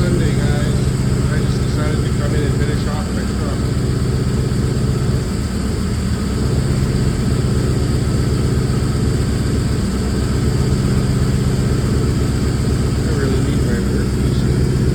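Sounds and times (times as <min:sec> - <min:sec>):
car engine idling roughly: 0:00.0 - 0:14.9.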